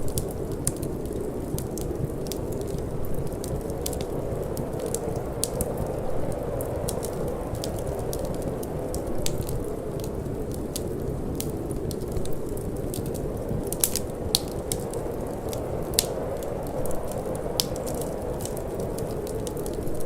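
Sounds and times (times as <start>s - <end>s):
cold wind rushing: 0.0s - 20.0s
wood fire crackling: 0.0s - 20.0s.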